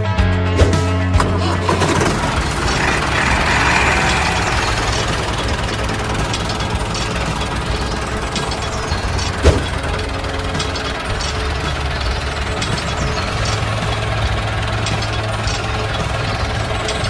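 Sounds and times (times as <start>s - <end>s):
small engine clattering: 0.5s - 17.0s.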